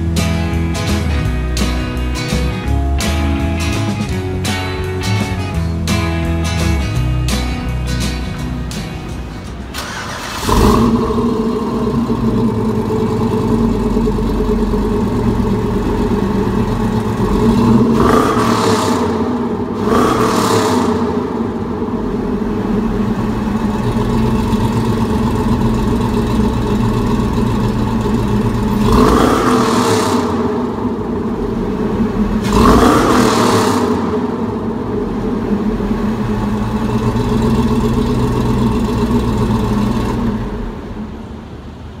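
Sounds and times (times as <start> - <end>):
pickup engine idling and revving: 0.0 - 42.0.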